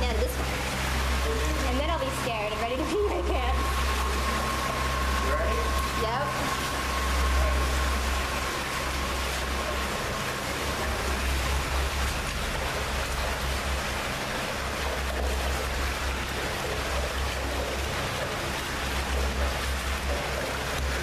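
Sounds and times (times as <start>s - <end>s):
water rushing in tunnel: 0.0s - 21.0s.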